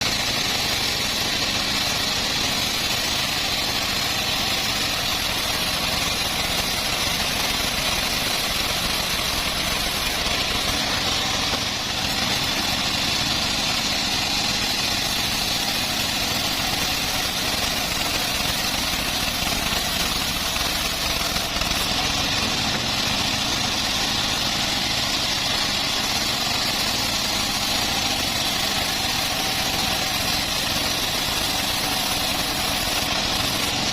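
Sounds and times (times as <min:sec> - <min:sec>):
bandsaw sawmill running: 0:00.0 - 0:33.9.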